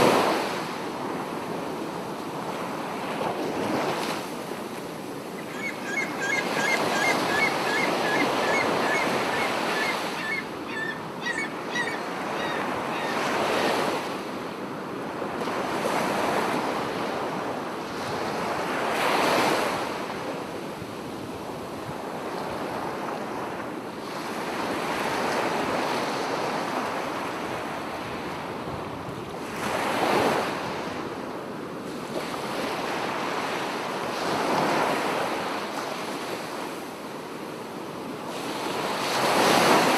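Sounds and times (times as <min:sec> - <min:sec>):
sea waves breaking on beach: 0:00.0 - 0:23.3, 0:24.0 - 0:39.9.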